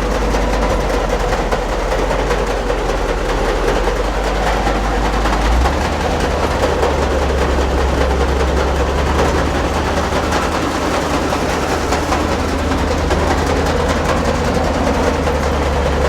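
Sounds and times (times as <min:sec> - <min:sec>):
grain auger rattling: 0:00.0 - 0:16.0
tractor diesel engine running: 0:00.0 - 0:16.0.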